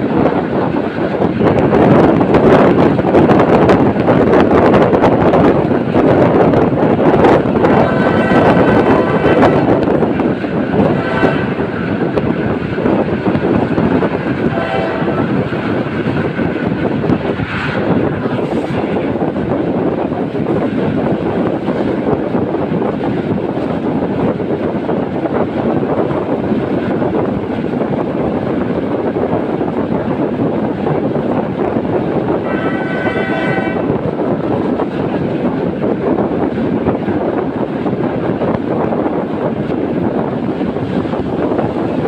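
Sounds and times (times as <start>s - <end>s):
train wheels and wind rushing: 0.0s - 42.0s.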